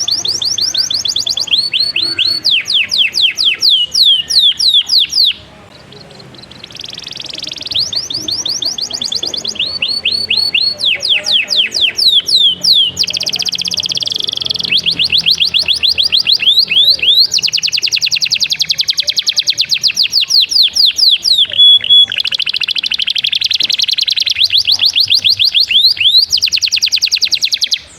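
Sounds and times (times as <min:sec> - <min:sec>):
canary singing: 0:00.0 - 0:27.9.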